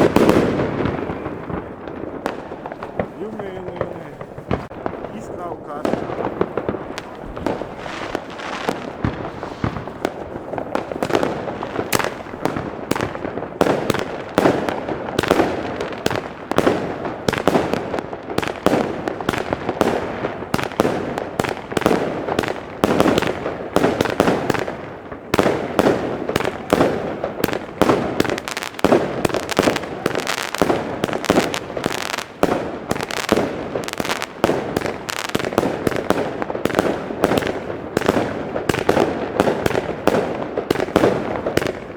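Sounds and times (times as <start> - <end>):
fireworks rapid bangs and crackles: 0.0 - 41.9.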